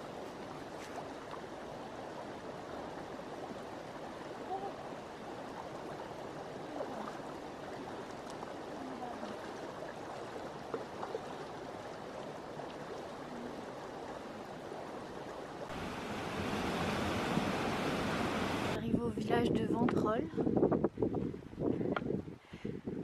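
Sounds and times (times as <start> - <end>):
splashes of wading: 0.0 - 18.8
stream running over stones: 0.0 - 18.8.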